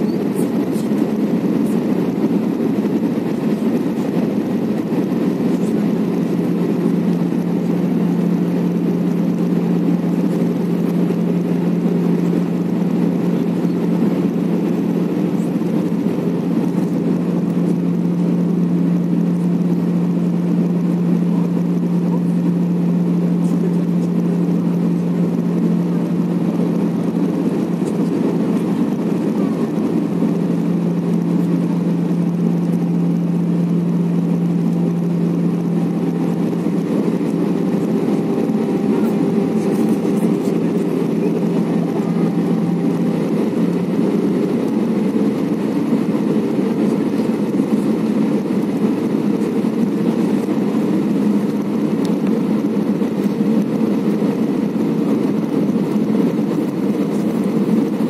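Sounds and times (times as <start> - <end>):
constant low hum: 0.0 - 58.0
jet engine cabin drone: 0.0 - 58.0.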